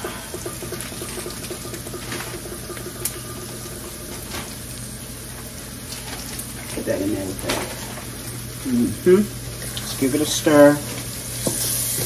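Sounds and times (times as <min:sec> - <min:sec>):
onions sizzling in grease: 0:00.0 - 0:12.0.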